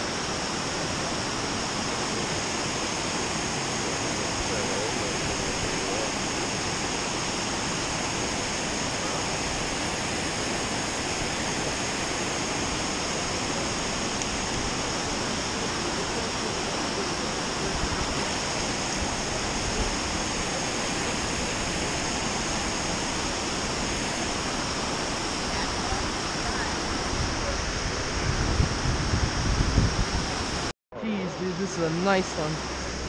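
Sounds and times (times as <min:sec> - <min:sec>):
water rushing down spillway: 0:00.0 - 0:29.3.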